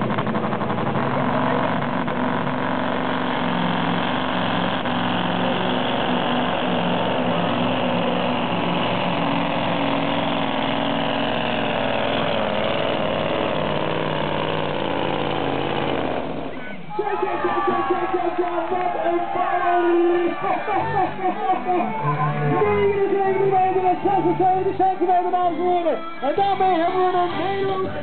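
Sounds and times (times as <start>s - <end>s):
diesel truck engine under load: 0.0s - 28.0s.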